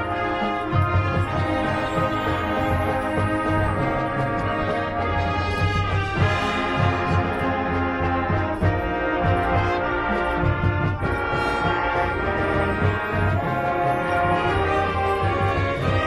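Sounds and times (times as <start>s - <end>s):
low brass bass: 0.0s - 16.0s
marching band brass chords: 0.0s - 16.0s.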